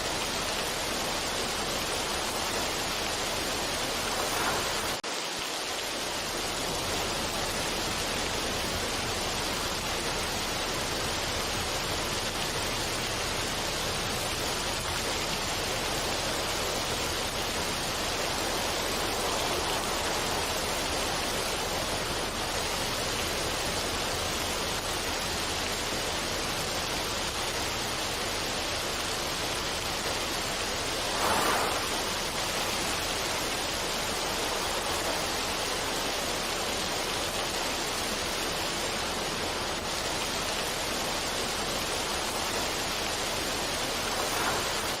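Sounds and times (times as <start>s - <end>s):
rushing water: 0.0s - 45.0s.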